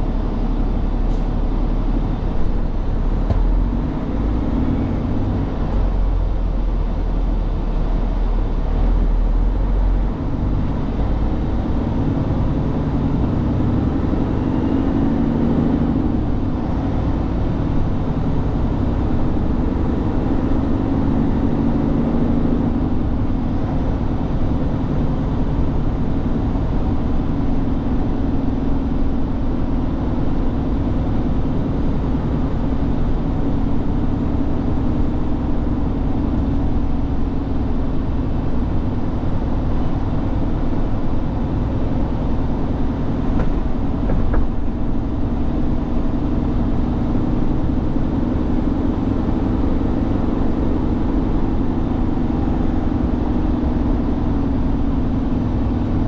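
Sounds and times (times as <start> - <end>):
road noise: 0.0 - 56.0
truck diesel engine driving: 0.0 - 56.0.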